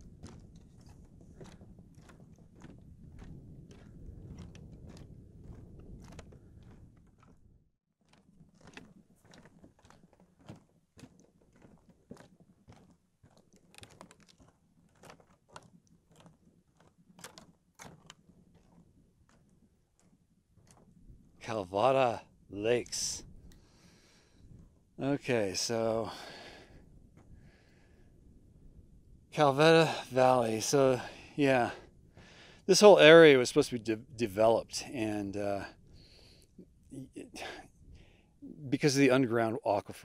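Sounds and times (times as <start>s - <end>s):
footsteps on wooden boardwalk: 0.0s - 28.2s, 29.4s - 38.5s.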